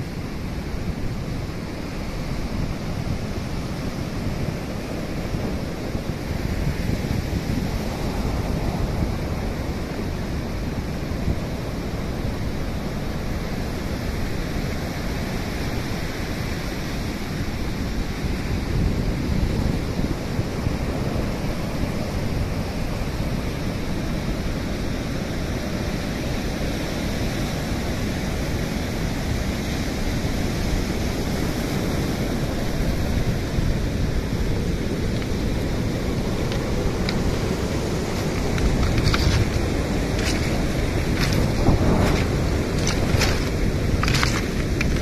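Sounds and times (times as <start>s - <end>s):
surf rushing over pebble shore: 0.0s - 45.0s.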